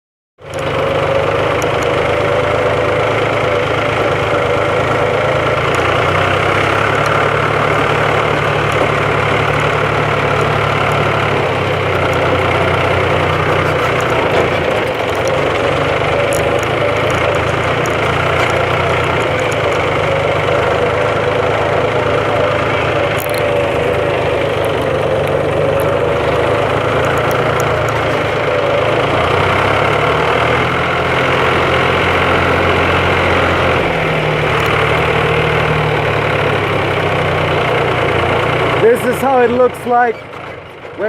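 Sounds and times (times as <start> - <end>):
diesel engine droning: 0.4 - 41.0.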